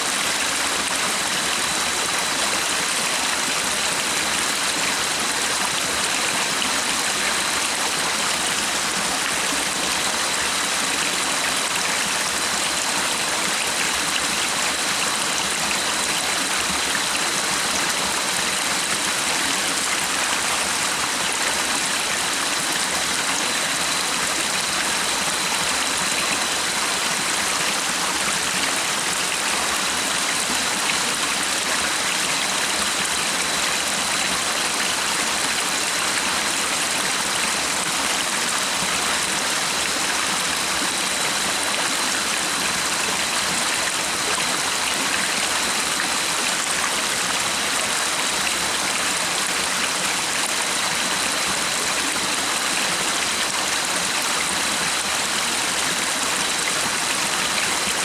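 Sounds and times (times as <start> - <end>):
stream water flowing and splashing: 0.0 - 58.0.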